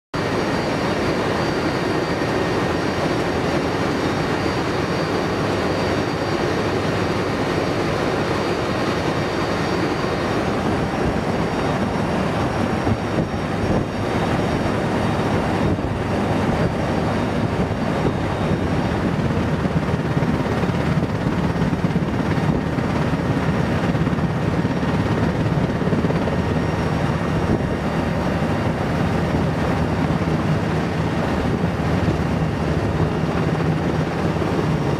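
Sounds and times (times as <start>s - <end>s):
turboprop engines droning: 0.2s - 34.9s.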